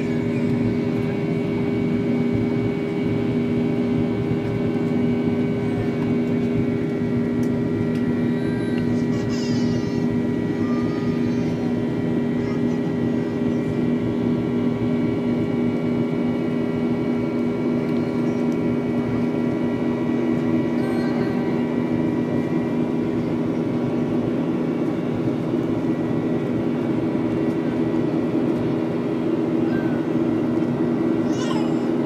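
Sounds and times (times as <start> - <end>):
airliner cabin engine and airflow noise: 0.0 - 32.0.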